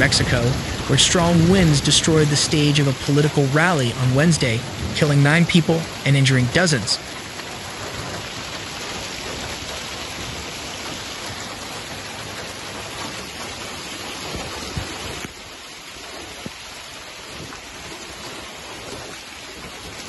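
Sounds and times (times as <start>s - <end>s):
hail and rain pouring: 0.0s - 20.0s
hail knocks: 0.0s - 20.0s.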